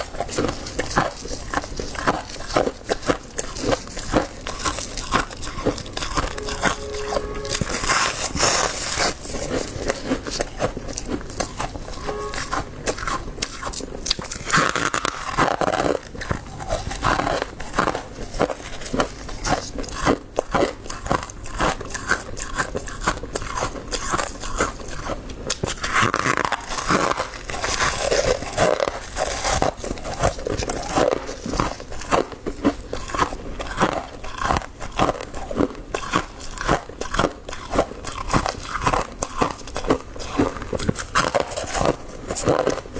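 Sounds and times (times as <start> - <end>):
frost being chewed: 0.0 - 42.9.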